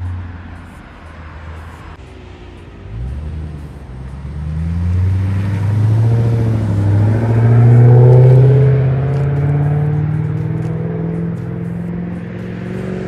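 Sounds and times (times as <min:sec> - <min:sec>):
car accelerating past: 0:01.5 - 0:13.0.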